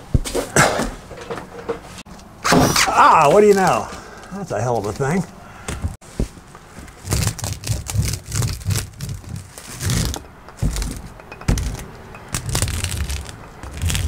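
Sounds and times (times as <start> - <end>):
woven matting crackling and rustling: 0.0 - 14.0.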